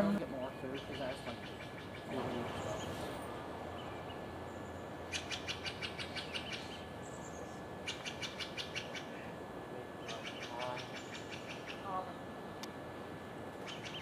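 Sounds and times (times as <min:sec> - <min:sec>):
songbird singing: 0:00.0 - 0:12.7, 0:13.6 - 0:14.0
faint outdoor background: 0:00.0 - 0:14.0.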